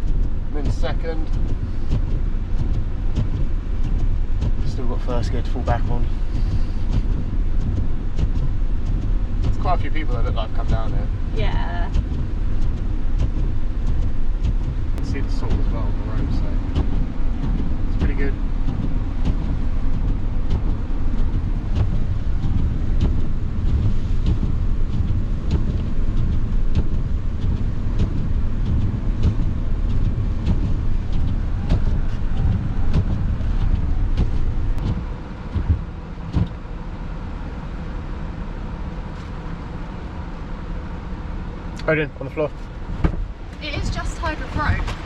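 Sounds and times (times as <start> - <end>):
van engine and tyre rumble: 0.0 - 45.0.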